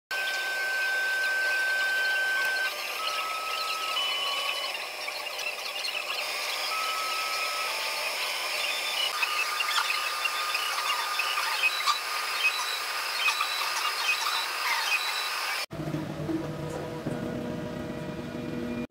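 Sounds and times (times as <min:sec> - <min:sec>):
stepper motors whining: 0:00.1 - 0:18.9
cooling fans hissing: 0:00.2 - 0:18.9.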